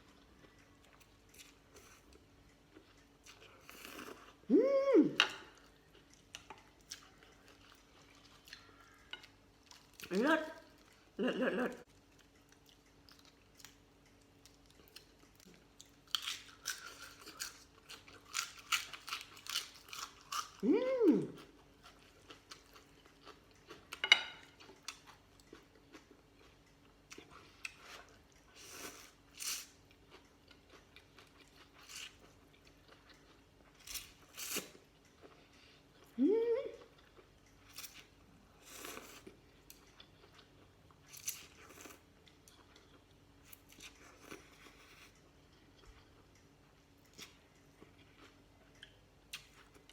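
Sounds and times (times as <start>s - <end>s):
chewing and crunching noodle soup: 0.0s - 4.5s, 5.2s - 36.2s, 36.8s - 49.9s.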